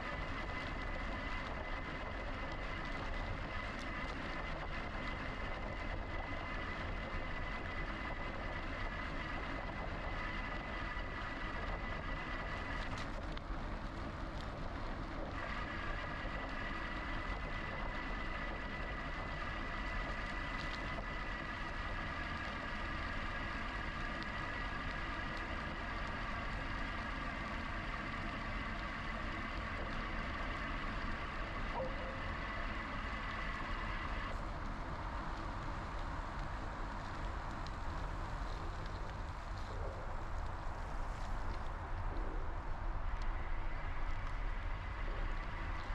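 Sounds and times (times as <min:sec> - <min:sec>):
electric bike motor whine: 0:00.0 - 0:45.9
tyres and wind rumble: 0:00.0 - 0:45.9.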